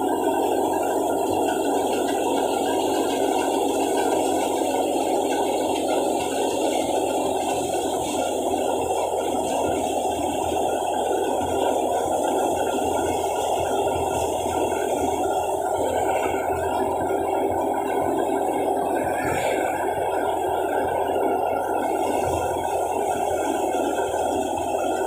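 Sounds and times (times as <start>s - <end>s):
wheat thresher running: 0.0s - 25.0s.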